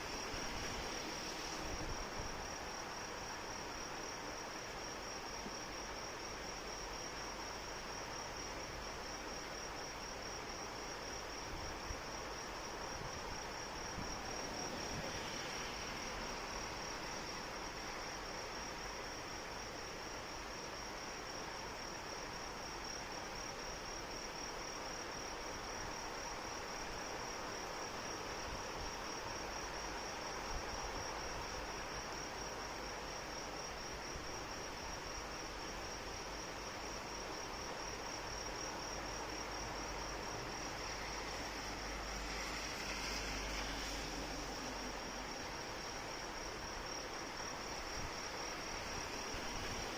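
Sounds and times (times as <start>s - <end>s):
crickets chirping: 0.0s - 49.9s
steady rain: 0.0s - 49.9s.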